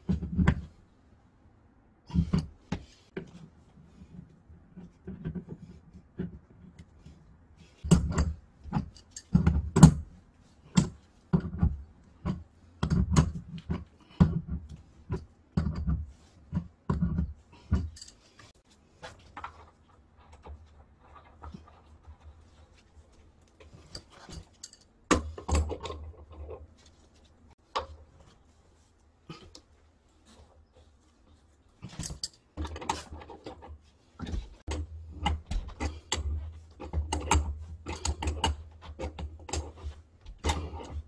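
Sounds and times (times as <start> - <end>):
hands handling metal pipe fittings: 2.1 - 41.0.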